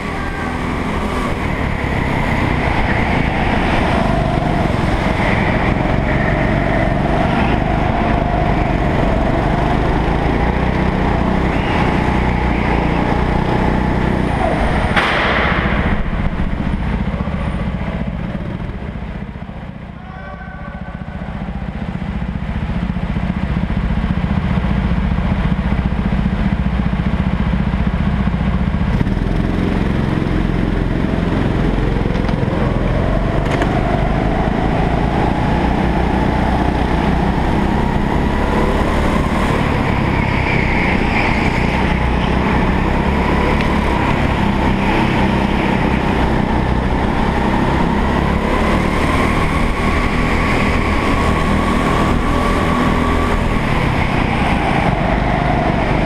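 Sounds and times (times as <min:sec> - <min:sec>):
go-kart engine running hard: 0:00.0 - 0:56.0
other karts running nearby: 0:00.0 - 0:56.0.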